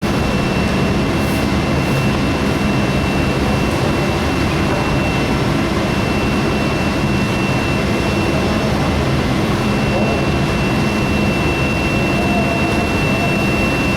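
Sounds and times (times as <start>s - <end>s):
high-pitched whine: 0.0s - 13.9s.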